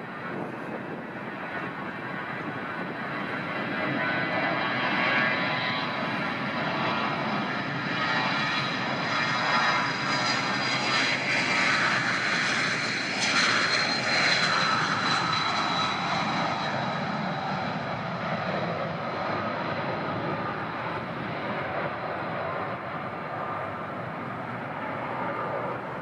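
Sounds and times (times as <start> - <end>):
airliner engines whining: 0.0 - 26.0.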